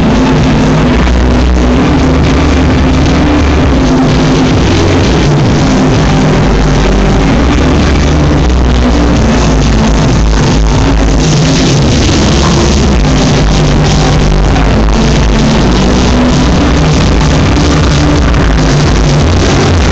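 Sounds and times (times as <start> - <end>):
loud club music: 0.0 - 19.9.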